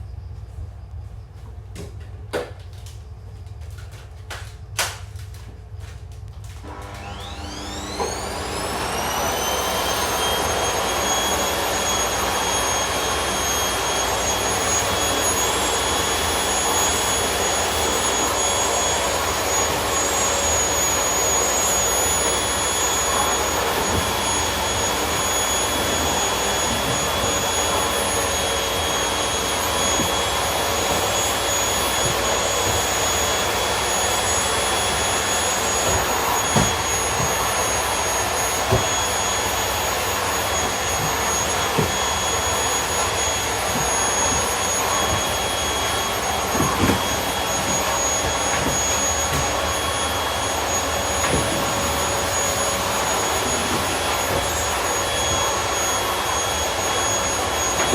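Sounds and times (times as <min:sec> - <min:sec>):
vacuum cleaner running: 0:01.8 - 0:57.9.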